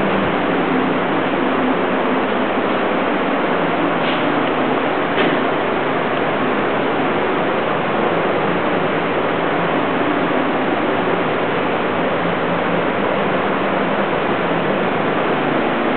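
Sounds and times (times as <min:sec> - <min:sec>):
steady rushing hiss: 0:00.0 - 0:15.9.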